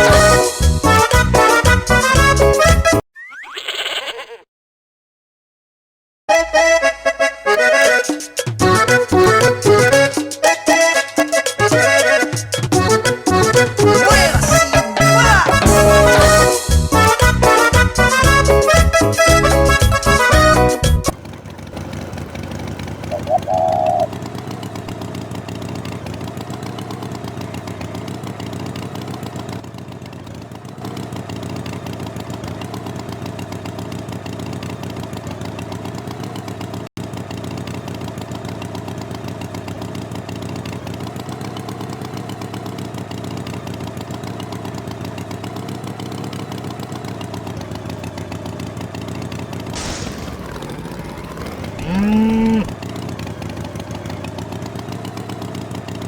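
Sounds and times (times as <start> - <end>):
engine running steadily: 0.0 - 2.9, 7.8 - 56.0.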